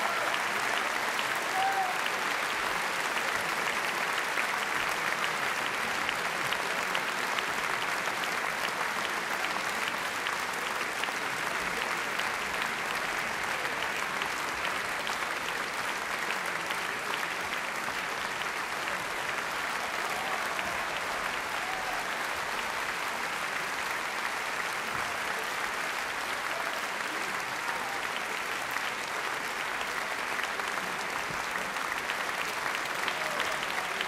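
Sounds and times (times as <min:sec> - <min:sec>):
large audience applauding: 0:00.0 - 0:34.0.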